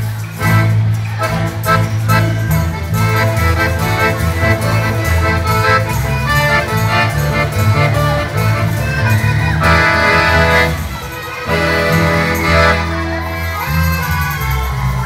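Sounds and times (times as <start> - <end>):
accordion melody: 0.0 - 15.0
bass notes: 0.0 - 15.0
hand percussion beat: 0.0 - 15.0.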